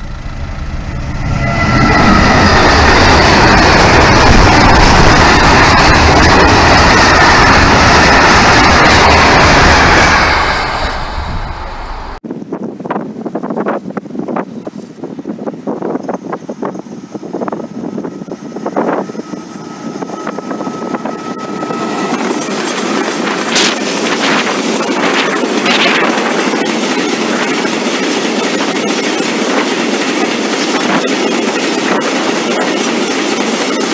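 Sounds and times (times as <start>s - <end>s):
freight train rumbling past: 0.0s - 12.9s, 14.0s - 33.9s
wind buffeting microphone: 0.1s - 33.9s.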